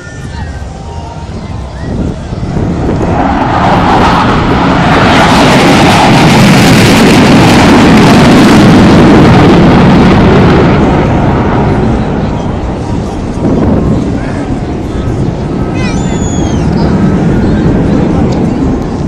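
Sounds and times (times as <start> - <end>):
fighter jet passing close: 1.2 - 19.0.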